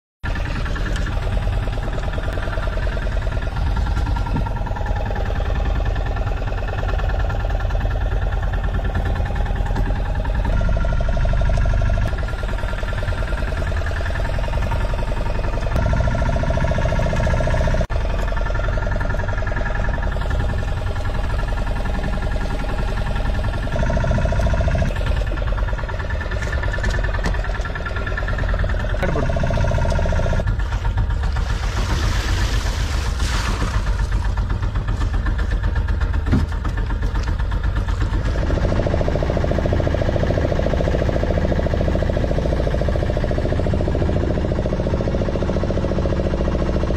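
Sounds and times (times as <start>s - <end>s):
boat engine droning: 0.2s - 46.9s.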